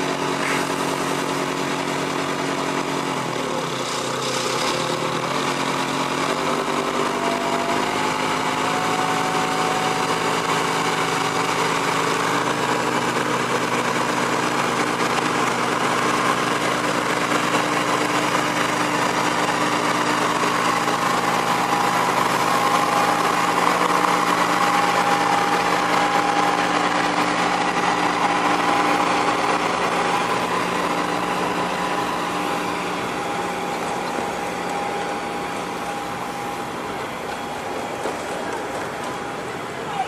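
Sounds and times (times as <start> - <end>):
diesel locomotive engine humming: 0.0 - 40.0.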